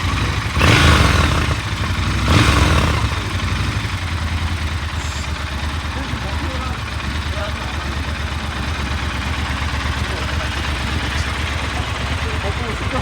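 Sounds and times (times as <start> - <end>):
motorcycle engine idling: 0.0 - 13.0
motorcycle engine revving: 0.0 - 13.0.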